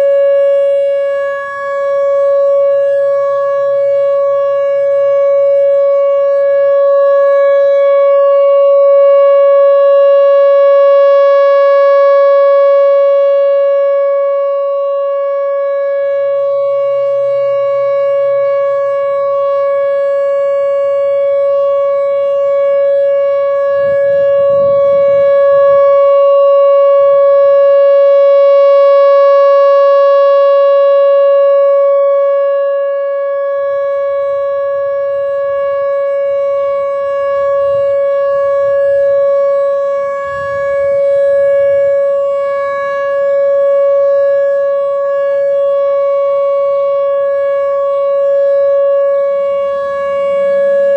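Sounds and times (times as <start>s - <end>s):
electronic warning siren steady tone: 0.0s - 50.9s.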